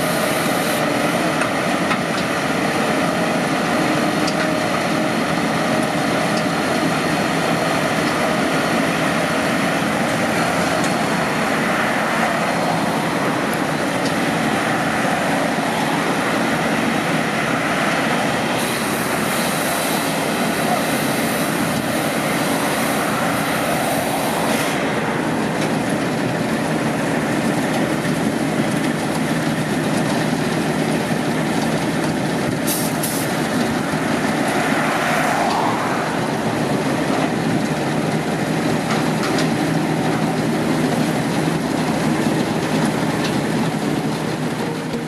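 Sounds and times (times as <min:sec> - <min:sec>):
harvester engine running: 0:00.0 - 0:45.0.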